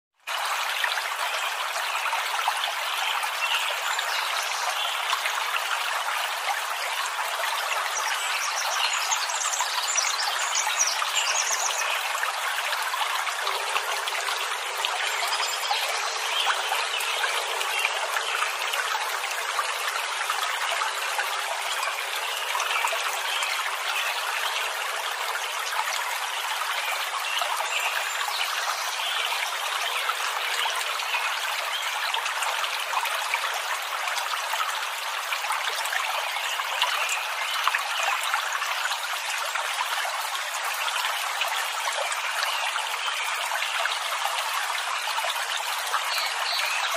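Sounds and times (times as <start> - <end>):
stream trickling: 0.2 - 46.9.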